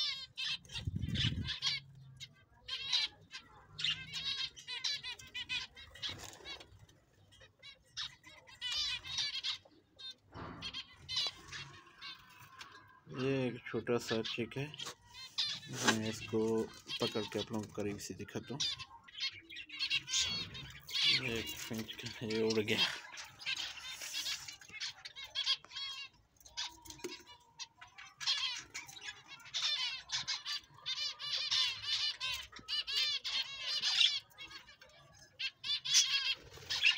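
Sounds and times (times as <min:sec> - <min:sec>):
finches chirping: 0:00.0 - 0:36.9.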